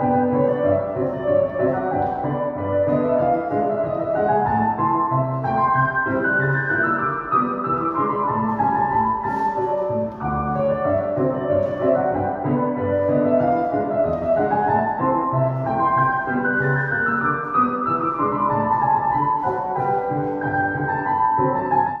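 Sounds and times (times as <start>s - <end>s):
classical piano music: 0.0s - 22.0s.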